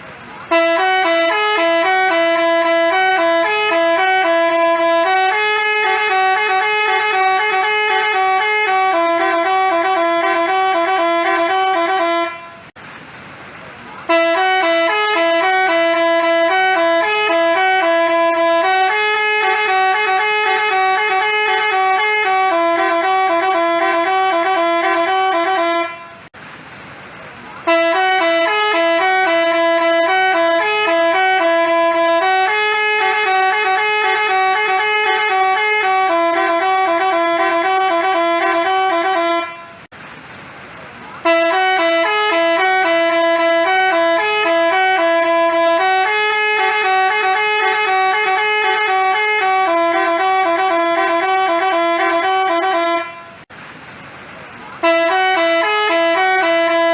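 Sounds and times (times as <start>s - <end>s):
multi-tone bus horn melody: 0.0s - 12.8s, 14.0s - 26.4s, 27.6s - 39.9s, 41.2s - 53.5s, 54.7s - 56.9s.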